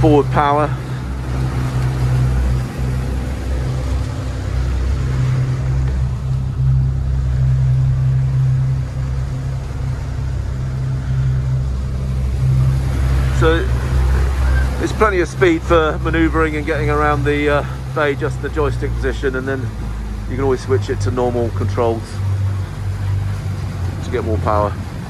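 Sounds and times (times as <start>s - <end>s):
hiss of water and wind: 0.0s - 25.0s
outboard engines droning: 0.0s - 25.0s.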